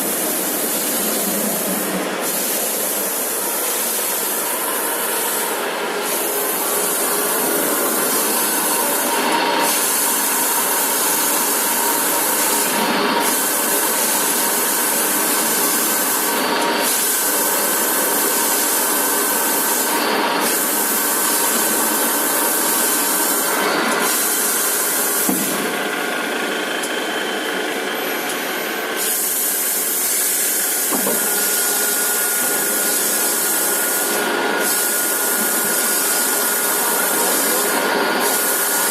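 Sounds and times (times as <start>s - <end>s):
drilling machine grinding: 0.0s - 38.9s.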